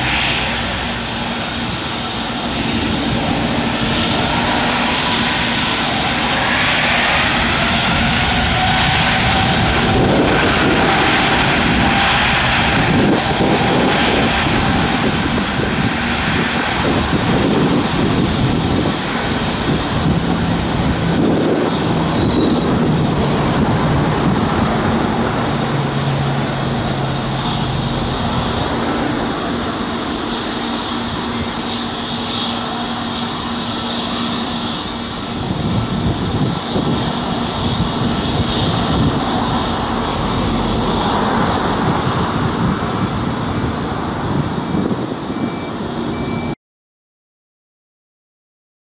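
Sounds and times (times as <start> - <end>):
faint jet engine whine: 0.0 - 46.6
jet airliner roar: 0.0 - 46.6.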